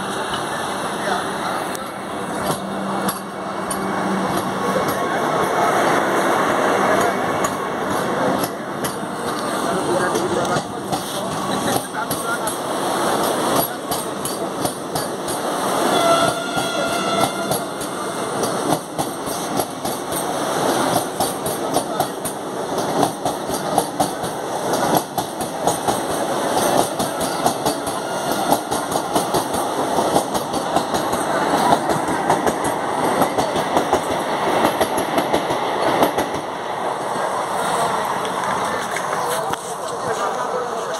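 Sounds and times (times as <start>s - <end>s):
train rushing past: 0.0s - 40.9s.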